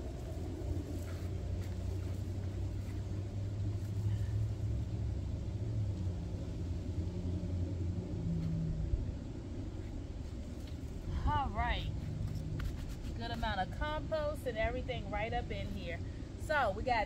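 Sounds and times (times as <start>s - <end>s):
engine running rumble: 0.0s - 17.0s
steady low hum: 0.0s - 17.0s.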